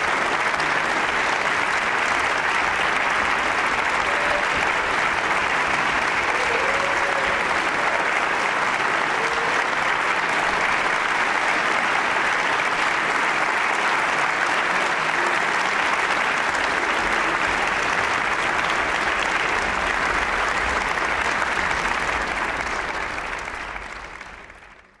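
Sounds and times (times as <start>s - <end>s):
large audience applauding: 0.0s - 25.0s.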